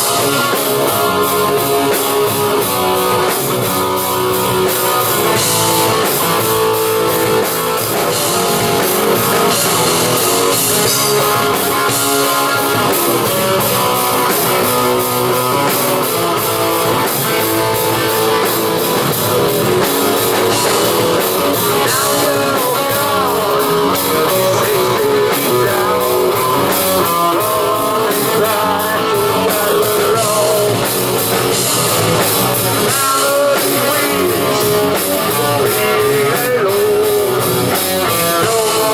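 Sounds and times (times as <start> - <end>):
lead guitar bending notes: 0.0 - 38.9
person singing: 0.0 - 38.9
rock band playing: 0.0 - 38.9.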